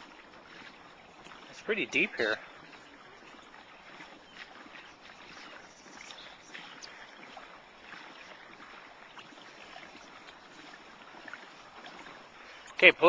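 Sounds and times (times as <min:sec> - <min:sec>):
water drips and splashes: 0:00.0 - 0:13.0
water lapping against hull: 0:00.0 - 0:13.0.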